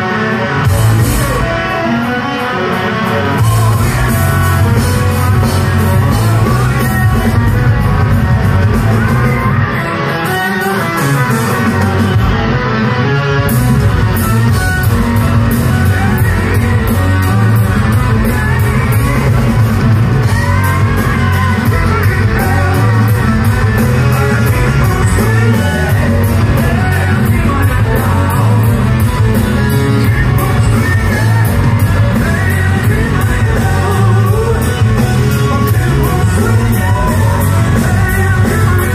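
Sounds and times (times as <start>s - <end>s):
man singing: 0.0s - 12.4s, 14.2s - 38.9s
live hard rock band: 0.0s - 38.9s.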